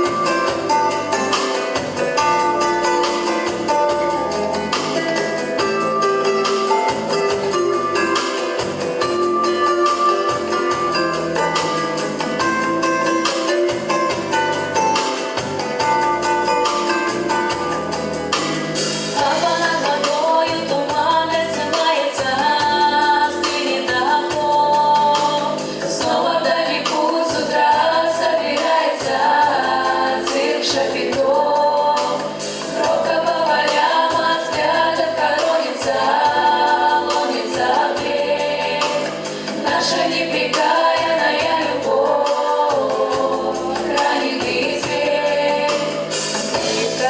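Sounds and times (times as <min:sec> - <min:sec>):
instrumental accompaniment: 0:00.0 - 0:47.0
vocal ensemble singing in harmony: 0:00.0 - 0:47.0.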